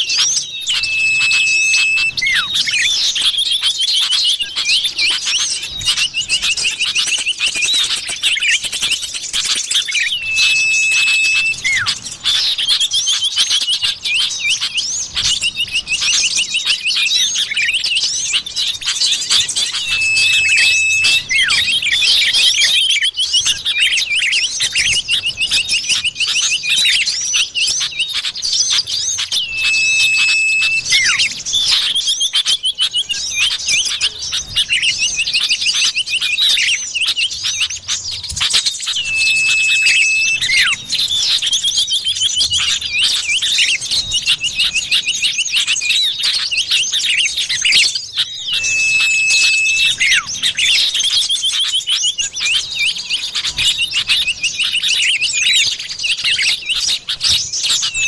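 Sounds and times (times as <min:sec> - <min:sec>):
bird chirps and trills: 0:00.0 - 0:58.0
long steady bird whistle: 0:00.0 - 0:58.0.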